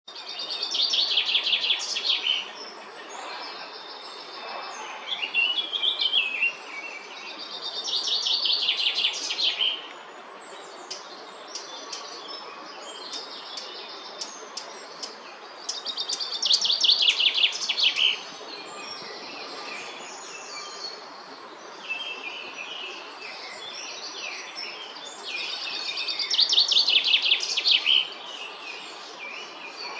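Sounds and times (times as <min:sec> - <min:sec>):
steady outdoor hiss: 0:00.1 - 0:29.9.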